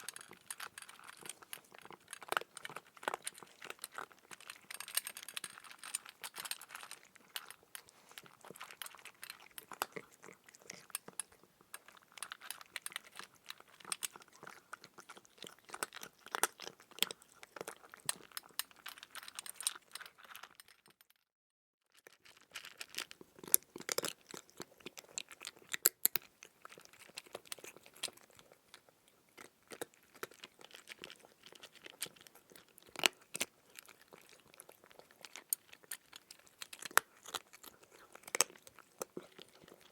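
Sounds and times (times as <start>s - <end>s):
chewing crunchy food: 0.0s - 21.2s, 21.8s - 39.9s.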